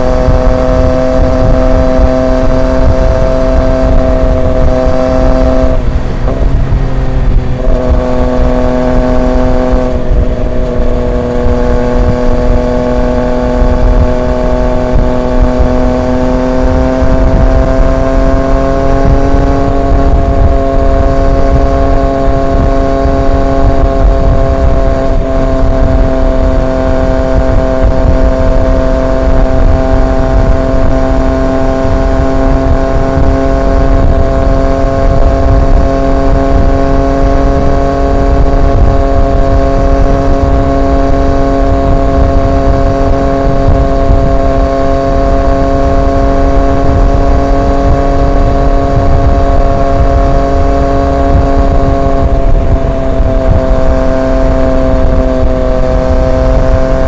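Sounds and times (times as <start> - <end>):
motorcycle engine cruising: 0.0 - 57.0
road rumble: 0.0 - 57.0
wind: 0.0 - 57.0.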